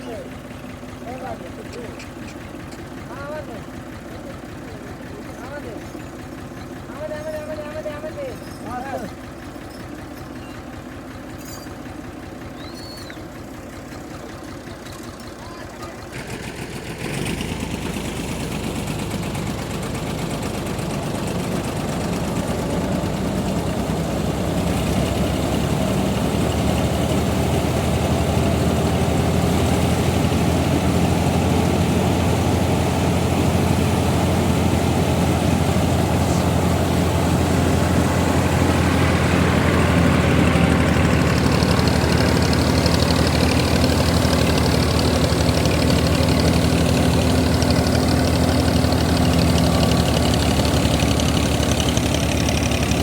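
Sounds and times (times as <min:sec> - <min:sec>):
tractor engine drone: 0:00.0 - 0:53.0.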